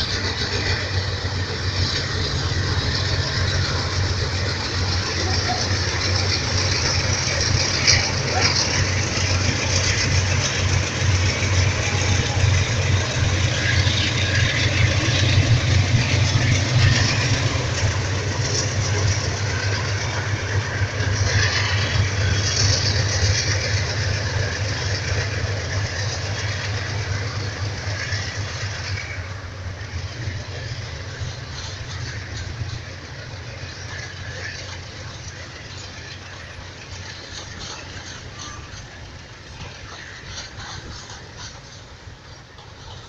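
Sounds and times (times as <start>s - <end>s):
diesel locomotive engines rumbling: 0.0s - 43.0s
rail and train noise: 0.0s - 43.0s.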